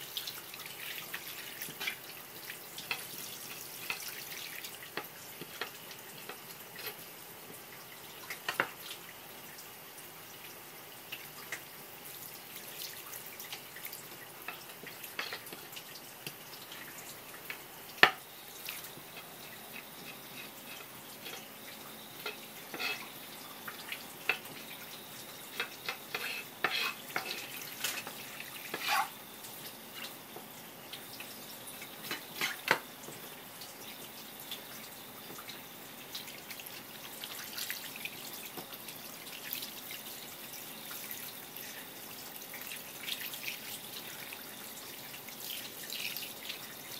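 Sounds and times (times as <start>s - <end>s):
tap running water: 0.0s - 9.7s, 10.4s - 46.9s.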